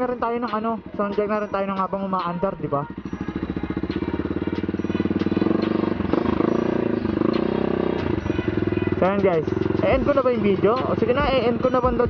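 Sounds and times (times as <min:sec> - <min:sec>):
motorcycle exhaust note: 0:00.0 - 0:12.0.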